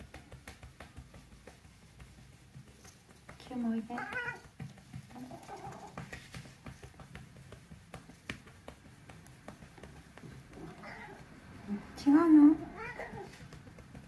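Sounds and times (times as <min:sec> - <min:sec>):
hands patting cat fur: 0:00.0 - 0:14.0.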